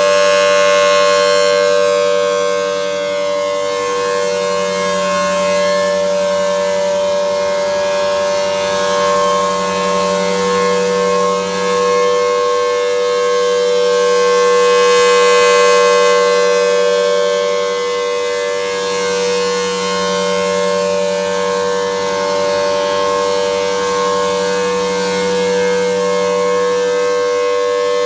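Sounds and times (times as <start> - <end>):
warning siren dual-tone chord: 0.0 - 28.0.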